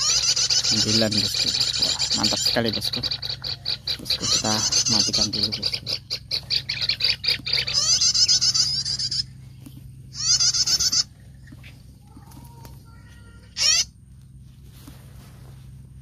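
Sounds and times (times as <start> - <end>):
rapid chattering bird calls: 0.0 - 14.1.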